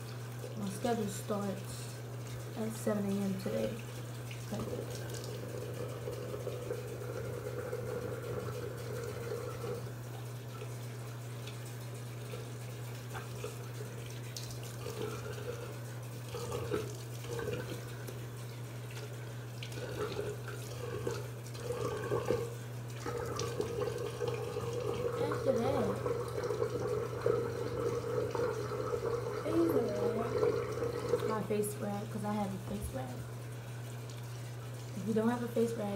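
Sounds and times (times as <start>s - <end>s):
sink tap running: 0.0s - 35.9s.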